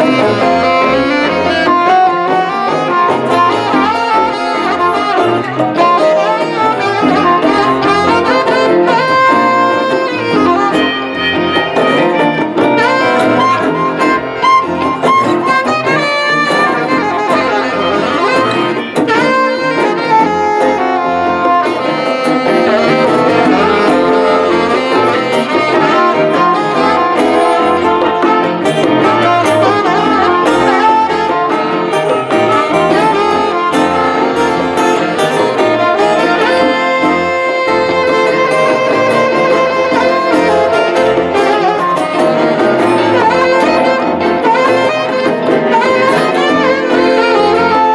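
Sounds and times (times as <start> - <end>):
conga drums: 0.0 - 47.9
electric guitars: 0.0 - 47.9
saxophone melody: 0.0 - 47.9.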